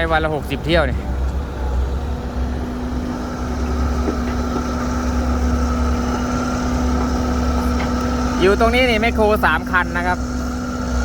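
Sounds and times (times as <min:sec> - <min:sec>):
diesel machinery engine rumbling: 0:00.0 - 0:11.0.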